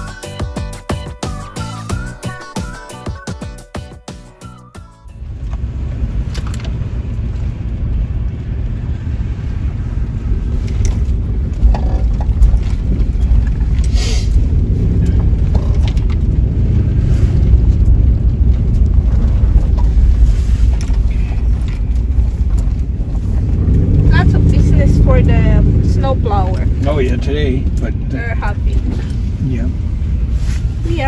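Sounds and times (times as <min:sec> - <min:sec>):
car road and engine rumble: 0:04.9 - 0:31.0.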